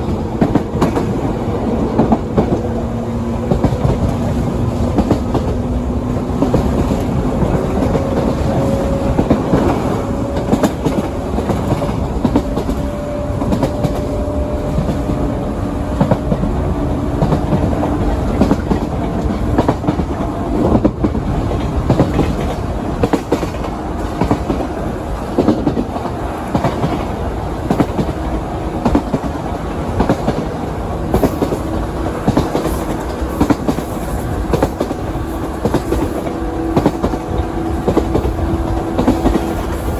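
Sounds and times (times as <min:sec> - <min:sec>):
train rumble inside passenger car: 0:00.0 - 0:39.9
wheels clacking over rail joints: 0:00.0 - 0:39.9.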